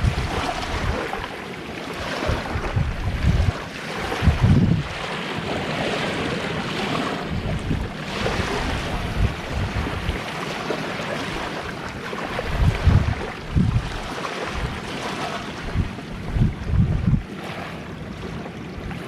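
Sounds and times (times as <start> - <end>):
sea waves washing on beach: 0.0 - 19.0
wind buffeting microphone: 0.0 - 19.0.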